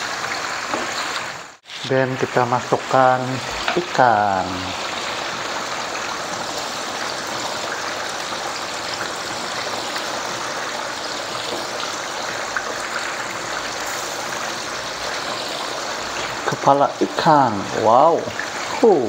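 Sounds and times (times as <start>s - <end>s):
gravy boiling in a wok: 0.0s - 19.0s.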